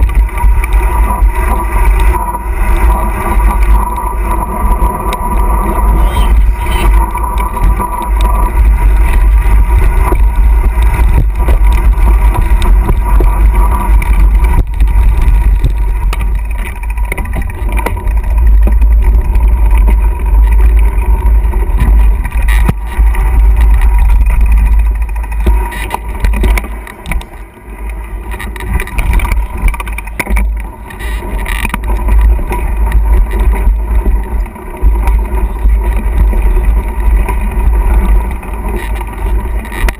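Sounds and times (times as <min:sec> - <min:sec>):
bike knocks and rattles: 0:00.0 - 0:39.9
wind rumble on microphone: 0:00.0 - 0:39.9.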